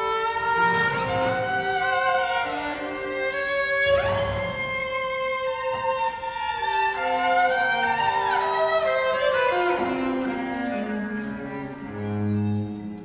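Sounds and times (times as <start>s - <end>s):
low bowed note: 0.0s - 13.0s
string trio playing chamber music: 0.0s - 13.0s.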